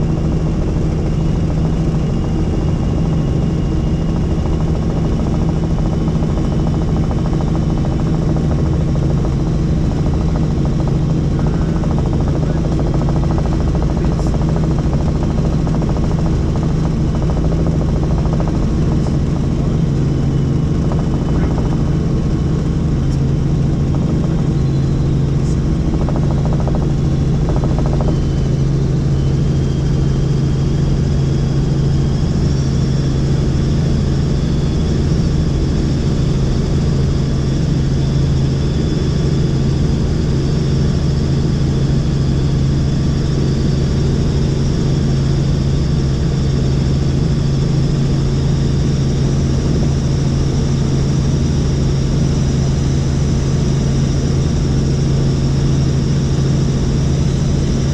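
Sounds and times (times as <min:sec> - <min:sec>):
helicopter rotor and engine drone: 0:00.0 - 0:57.9.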